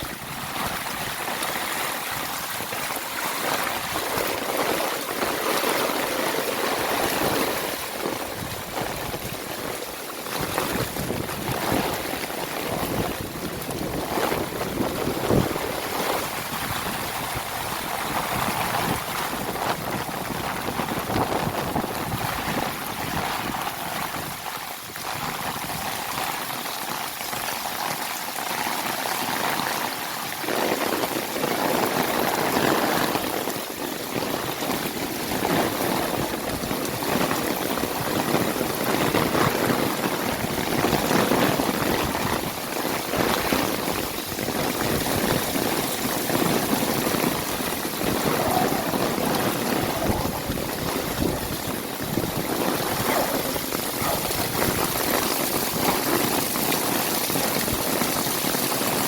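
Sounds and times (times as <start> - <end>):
heavy rain pouring: 0.0 - 59.0
water running and splashing: 0.0 - 59.0.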